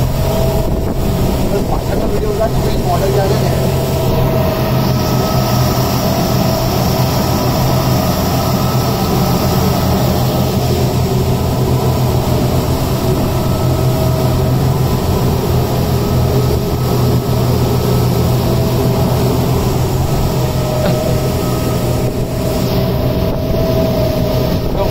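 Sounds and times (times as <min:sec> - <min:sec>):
outboard motors droning: 0:00.0 - 0:24.9.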